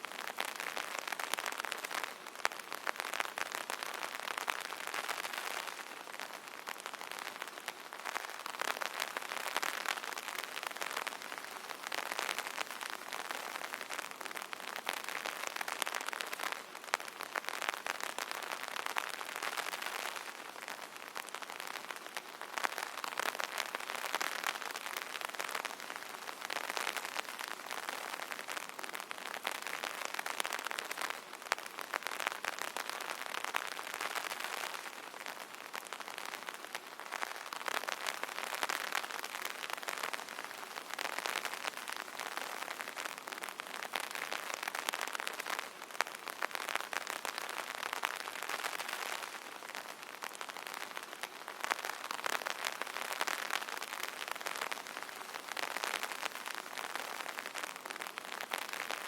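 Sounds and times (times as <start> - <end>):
rain pattering on an umbrella: 0.0 - 59.0.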